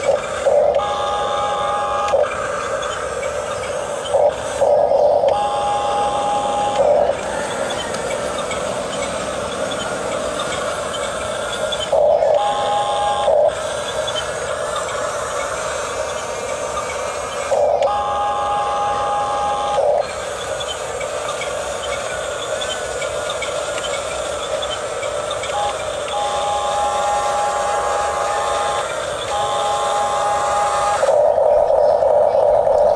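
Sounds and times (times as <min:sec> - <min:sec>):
electric gear motors whirring: 0:00.0 - 0:32.9
high motor whine: 0:00.0 - 0:32.9
mechanical hum: 0:00.0 - 0:32.9.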